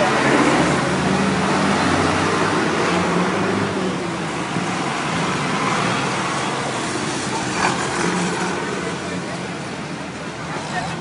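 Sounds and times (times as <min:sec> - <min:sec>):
tractor engines droning: 0:00.0 - 0:11.0.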